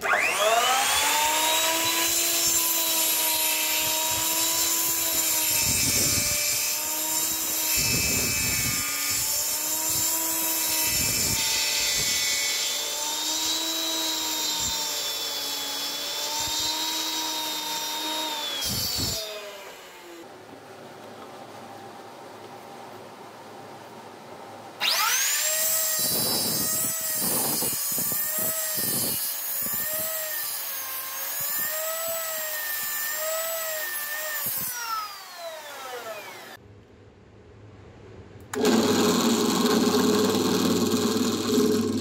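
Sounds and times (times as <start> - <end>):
drill boring into log: 0.0 - 20.2, 24.8 - 36.6, 38.5 - 42.0
miter saw cutting log: 0.0 - 20.3, 24.8 - 36.6, 38.5 - 42.0.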